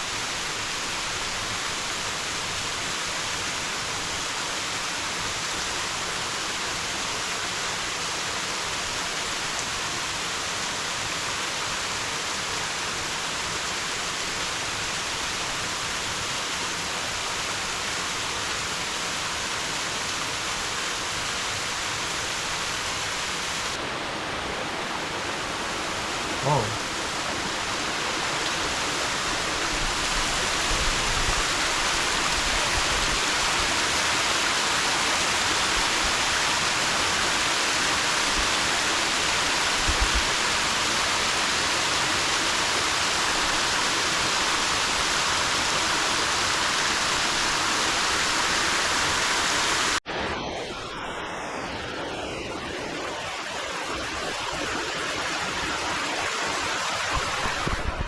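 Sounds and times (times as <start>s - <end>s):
waterfall rushing over rocks: 0.0s - 58.0s.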